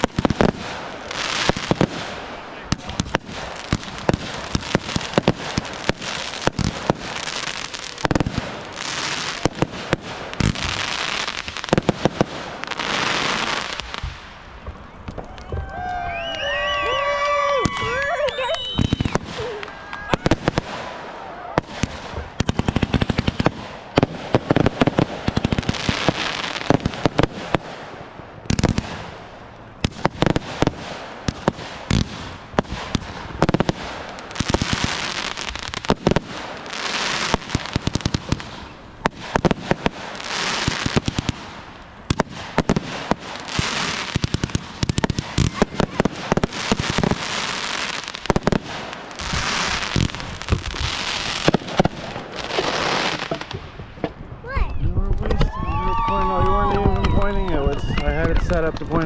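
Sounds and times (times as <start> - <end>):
fireworks crackling: 0.0 - 59.0
fireworks sharp bangs: 0.0 - 59.0.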